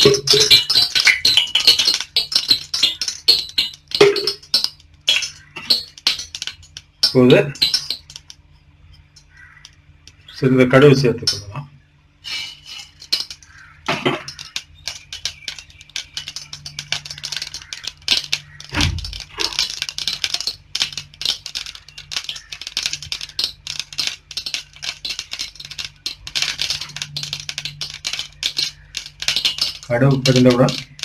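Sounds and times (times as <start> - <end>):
seeds popping in hot oil: 0.0 - 10.4, 12.3 - 31.0.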